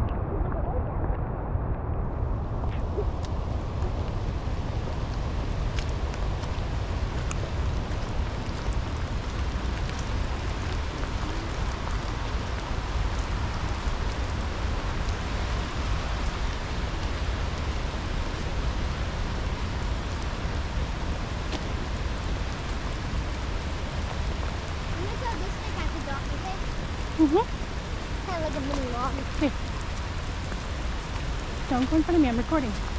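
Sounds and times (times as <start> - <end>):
river rushing through rapids: 2.7 - 32.9.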